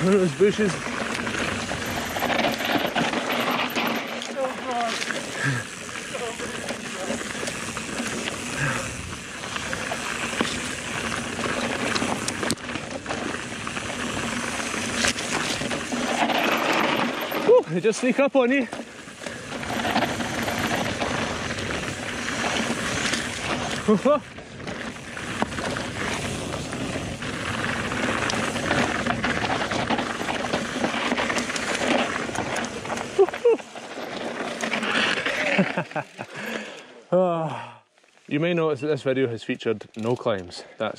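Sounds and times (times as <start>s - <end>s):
bike knocking and rattling: 0.0s - 36.6s
tyres over rock: 0.0s - 36.9s.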